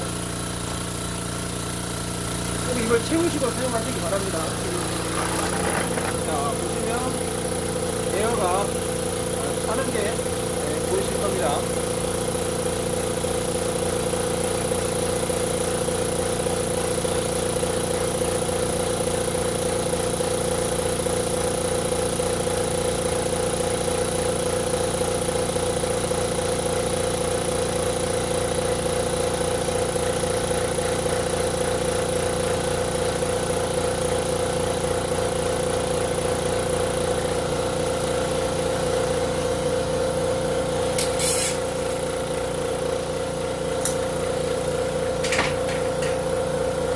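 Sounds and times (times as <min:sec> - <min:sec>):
air compressor running: 0:00.0 - 0:46.9.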